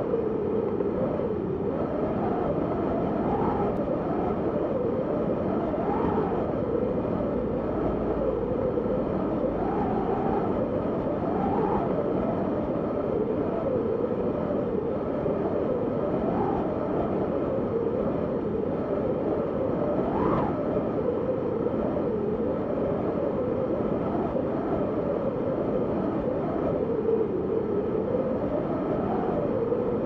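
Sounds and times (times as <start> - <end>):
howling blizzard wind: 0.0 - 30.0.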